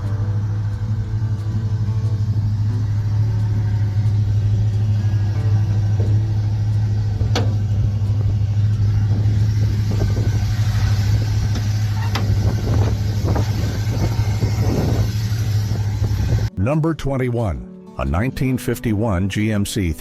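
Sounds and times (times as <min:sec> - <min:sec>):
car engine humming: 0:00.0 - 0:16.5.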